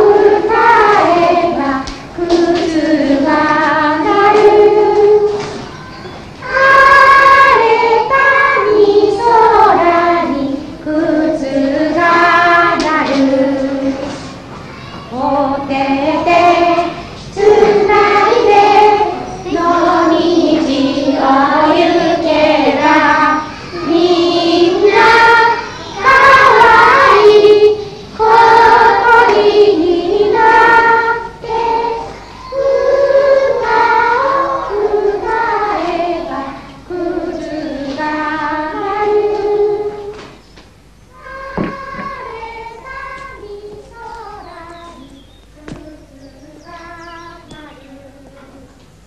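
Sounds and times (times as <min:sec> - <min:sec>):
children singing: 0:00.0 - 0:40.4, 0:41.1 - 0:48.8.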